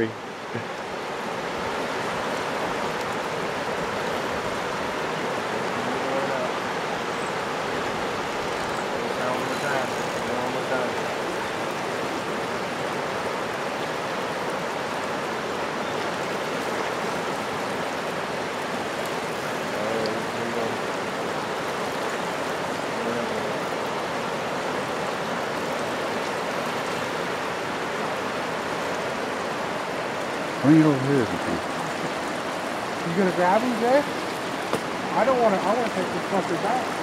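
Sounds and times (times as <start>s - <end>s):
river rushing: 0.0s - 37.0s.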